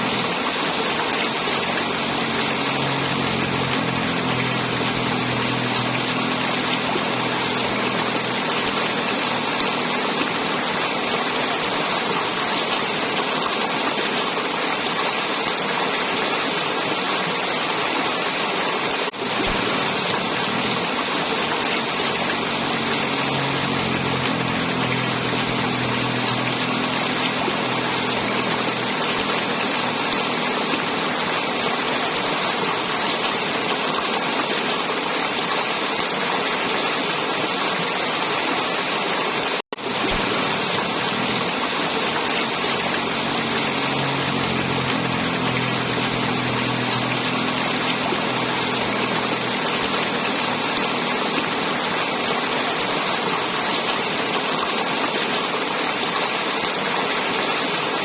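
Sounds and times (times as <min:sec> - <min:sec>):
river water flowing and gurgling: 0:00.0 - 0:58.0.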